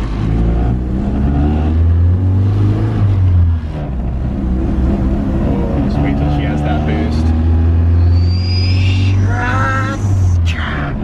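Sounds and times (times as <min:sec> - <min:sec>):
minivan engine accelerating: 0:00.0 - 0:11.0.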